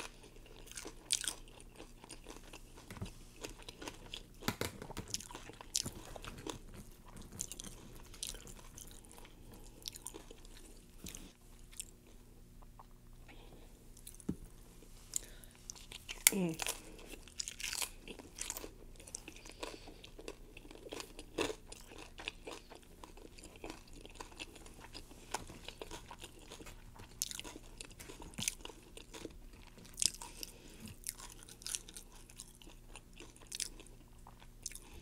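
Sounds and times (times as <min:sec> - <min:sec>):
chips crunching and chewing: 0:00.0 - 0:12.1, 0:15.2 - 0:35.0.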